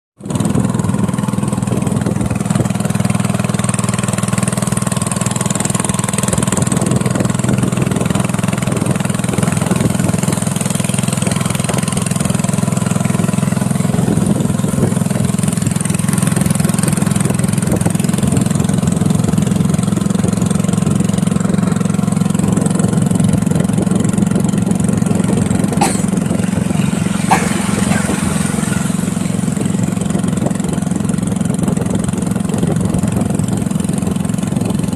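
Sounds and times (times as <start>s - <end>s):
small engine running: 0.2s - 34.9s.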